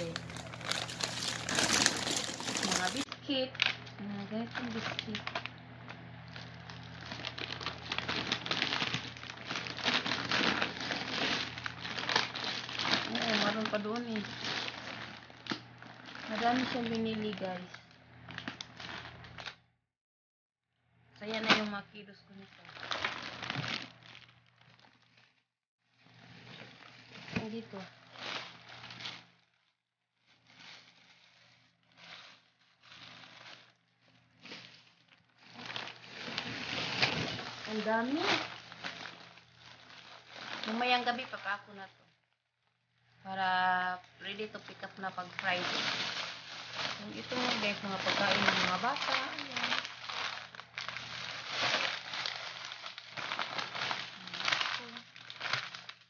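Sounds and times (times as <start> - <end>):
plastic bags rustling: 0.0 - 3.6, 6.2 - 17.6, 22.5 - 25.4, 26.0 - 41.7, 43.5 - 56.0
plastic snack packets crinkling: 0.0 - 19.6, 22.4 - 25.4, 26.2 - 41.8, 43.8 - 56.0.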